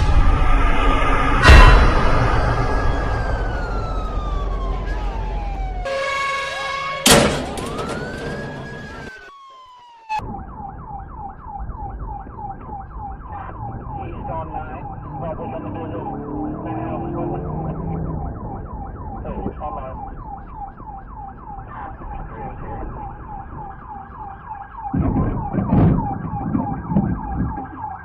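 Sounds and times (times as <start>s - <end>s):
police siren: 0.0s - 28.0s.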